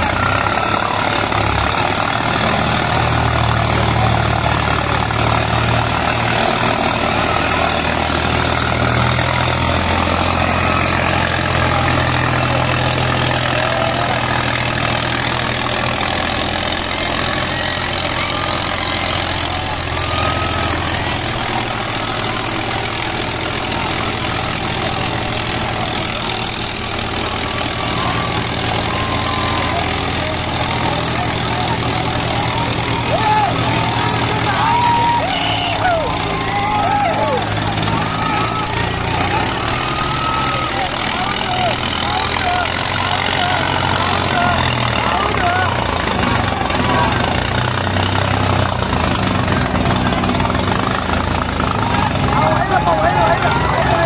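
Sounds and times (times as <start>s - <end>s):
diesel tractor engines under load: 0.0s - 54.0s.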